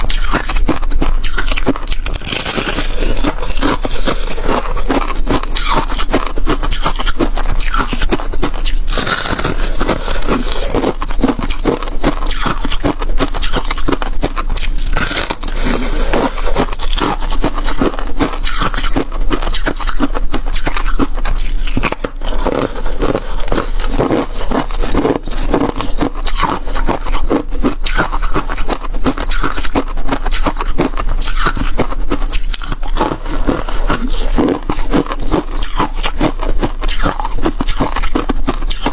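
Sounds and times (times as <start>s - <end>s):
frost ice crunching and scraping: 1.2s - 14.0s, 14.6s - 19.9s, 20.6s - 27.1s, 32.4s - 38.9s.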